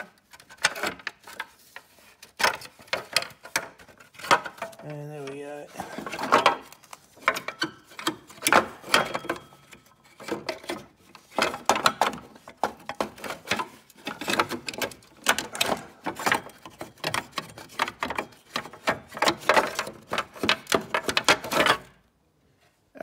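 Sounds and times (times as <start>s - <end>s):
plastic cover clattering against metal: 0.0s - 22.0s.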